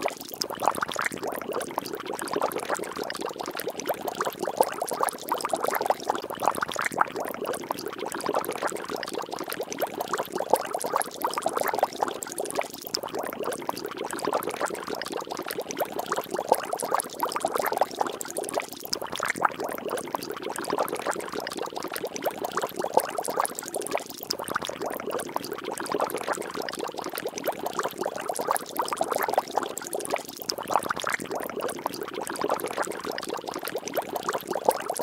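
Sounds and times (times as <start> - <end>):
water bubbling and splashing: 0.0 - 35.0.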